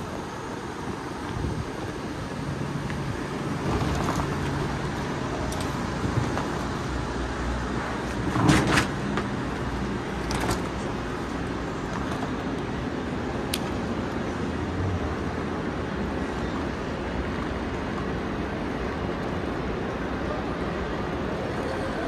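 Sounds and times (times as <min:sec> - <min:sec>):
station concourse rumble: 0:00.0 - 0:22.0.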